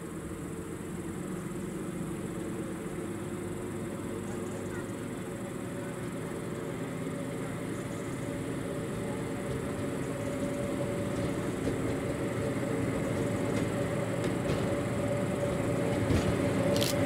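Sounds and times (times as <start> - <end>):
diesel railcar engine droning: 0.0 - 17.0.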